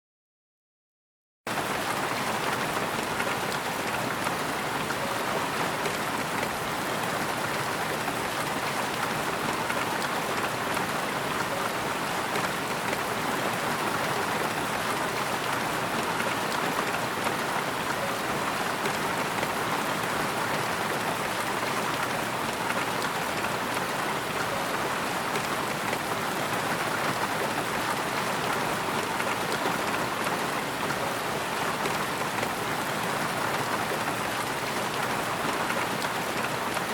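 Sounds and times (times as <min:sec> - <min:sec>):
steady rain patter: 0:01.5 - 0:36.9.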